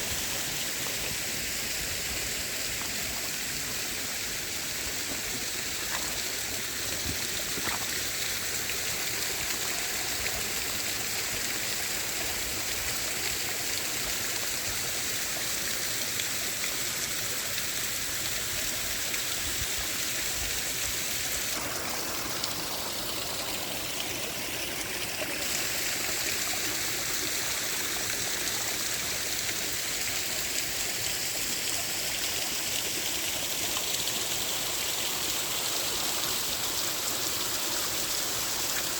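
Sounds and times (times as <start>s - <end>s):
water rushing down waterfall: 0.0s - 38.9s.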